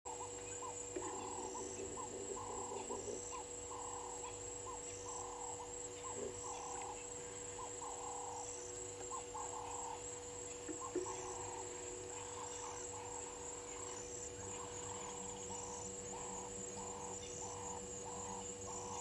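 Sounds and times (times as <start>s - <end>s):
high-pitched insect drone: 0.1s - 19.0s.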